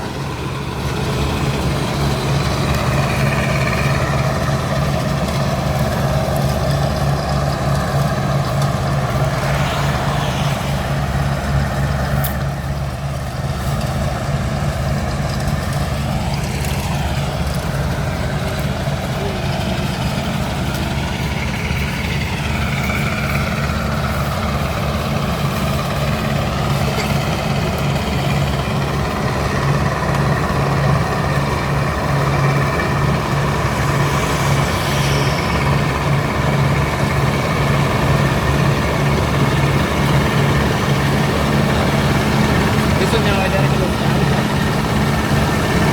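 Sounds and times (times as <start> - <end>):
combine harvester engine humming: 0.0 - 45.9.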